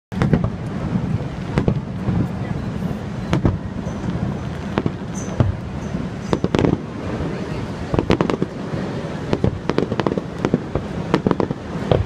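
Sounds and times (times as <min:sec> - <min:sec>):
fireworks bangs: 0:00.1 - 0:12.0
steady low rumble: 0:00.1 - 0:12.0.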